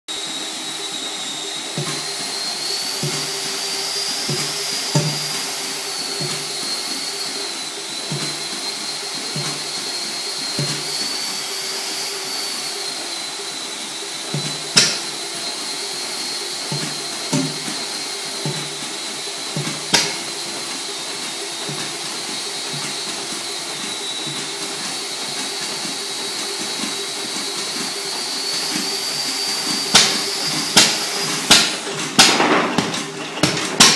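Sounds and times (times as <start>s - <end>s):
electric drill whining: 0.1s - 33.9s.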